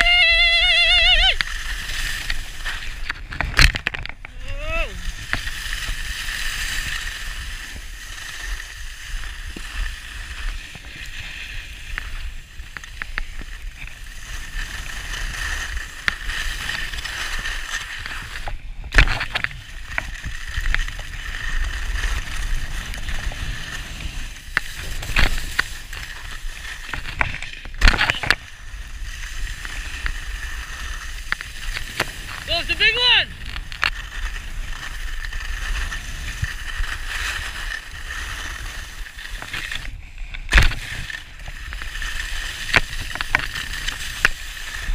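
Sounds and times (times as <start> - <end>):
skis scraping over snow: 0.0 - 44.9.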